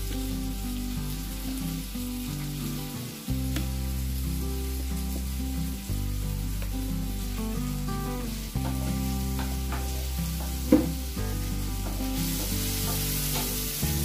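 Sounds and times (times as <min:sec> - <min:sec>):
background music with bass line: 0:00.0 - 0:14.0
vegetables sizzling in a frying pan: 0:00.0 - 0:14.0.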